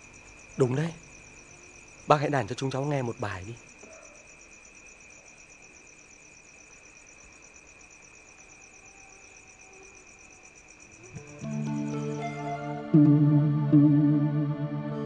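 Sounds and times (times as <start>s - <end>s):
crickets chirping: 0.0s - 15.0s
high insect tone: 0.0s - 15.0s.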